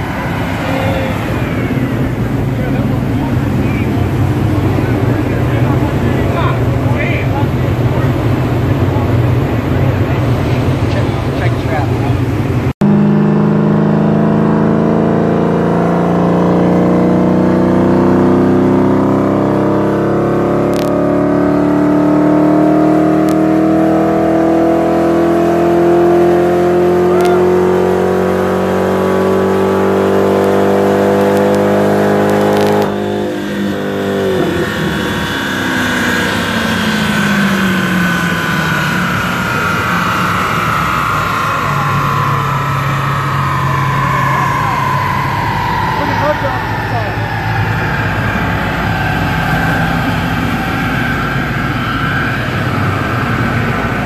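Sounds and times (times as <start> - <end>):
car engine at full throttle: 0.0 - 54.0
dyno rollers winding down: 0.0 - 54.0.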